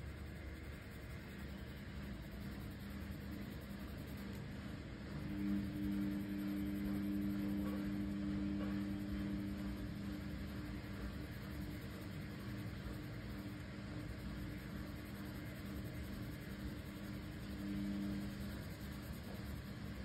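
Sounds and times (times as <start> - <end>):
faint steady hiss: 0.0 - 20.0
low two-note machine hum: 0.0 - 20.0.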